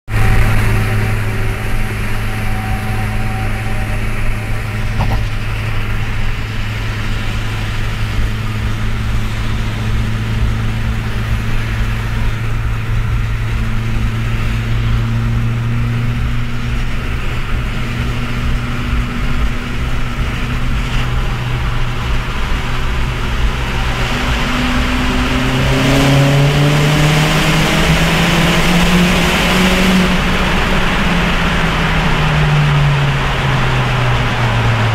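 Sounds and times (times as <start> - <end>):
car engine droning in tunnel: 0.0 - 34.9.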